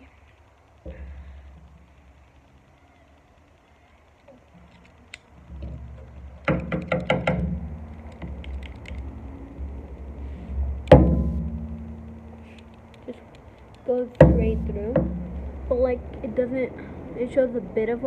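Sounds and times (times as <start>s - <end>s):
handling rumble: 0.0s - 18.0s.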